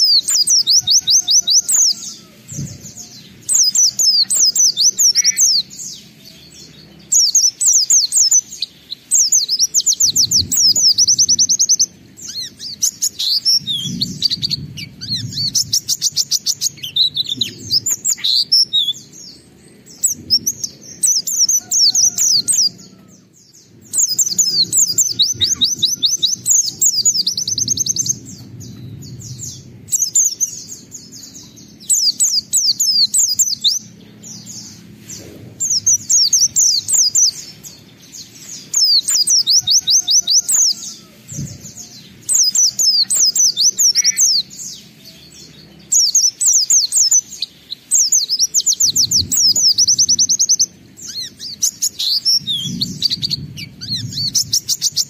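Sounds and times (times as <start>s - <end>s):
bird singing trilled phrases: 0.0s - 55.0s.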